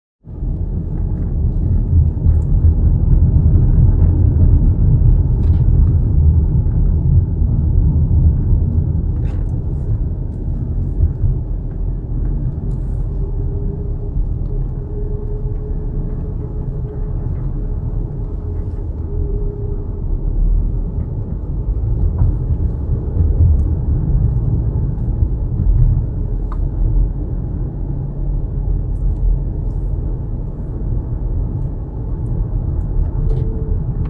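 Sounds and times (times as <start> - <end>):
car road and engine rumble: 0.2 - 34.0.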